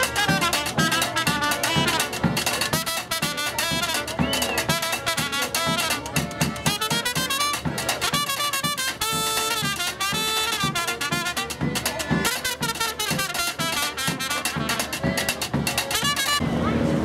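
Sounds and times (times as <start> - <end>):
drum beat: 0.0 - 16.4
trumpet: 0.0 - 16.4
accordion: 0.0 - 16.5
horns: 0.0 - 16.5.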